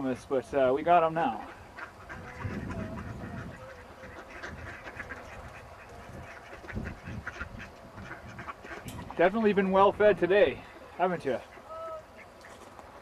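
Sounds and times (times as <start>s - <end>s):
ducks quacking: 0.0s - 12.7s.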